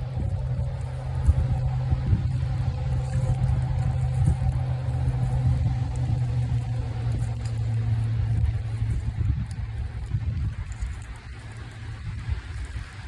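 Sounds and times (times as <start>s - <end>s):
highway traffic noise: 0.0s - 13.0s
wind buffeting microphone: 0.0s - 13.0s.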